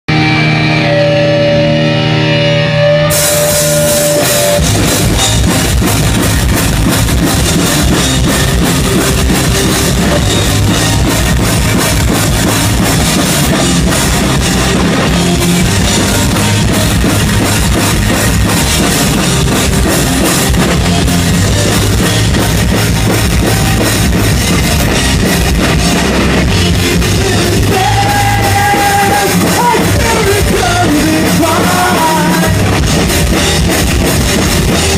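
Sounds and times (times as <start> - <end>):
punk rock band playing live: 0.1 - 34.9.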